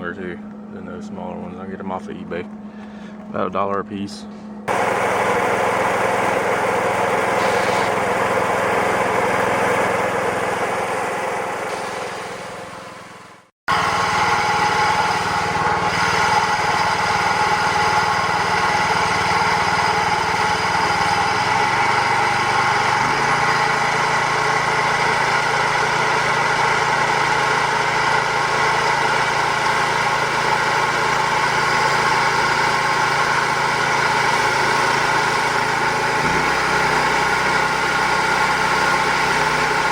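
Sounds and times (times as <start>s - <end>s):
small gasoline engine running: 4.7s - 39.9s.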